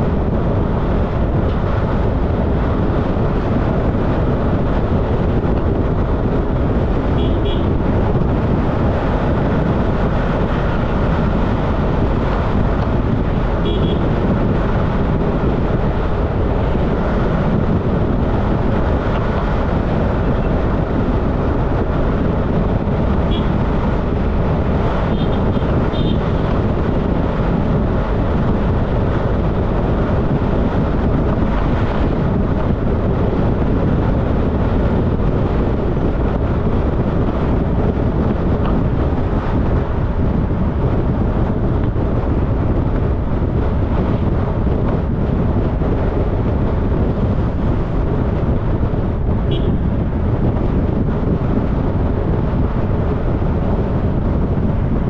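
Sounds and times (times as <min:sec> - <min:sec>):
motorcycle engine and road noise: 0:00.0 - 0:55.0
wind rushing over microphone: 0:00.0 - 0:55.0.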